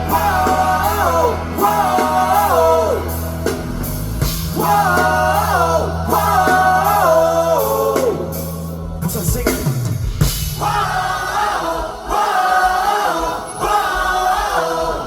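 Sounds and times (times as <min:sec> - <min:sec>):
live rock band: 0:00.0 - 0:15.0.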